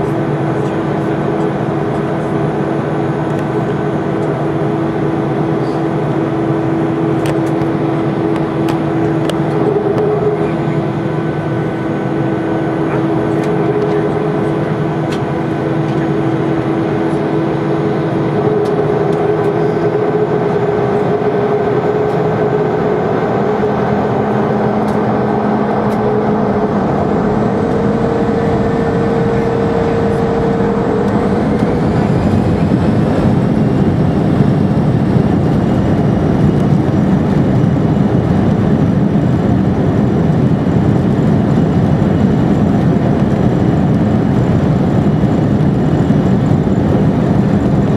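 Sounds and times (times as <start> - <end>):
jet engines roaring and whining: 0.0 - 47.9.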